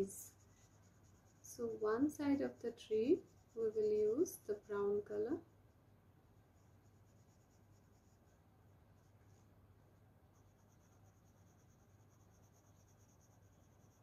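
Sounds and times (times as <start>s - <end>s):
colouring strokes on paper: 0.0s - 14.0s
low steady hum: 0.0s - 14.0s.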